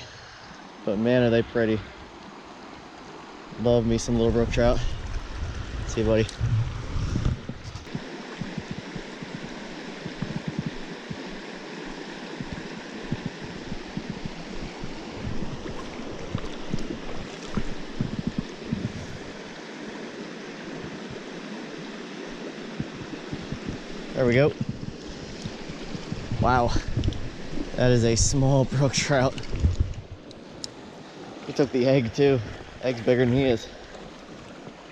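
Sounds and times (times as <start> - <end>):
stream running over rocks: 0.0 - 34.9.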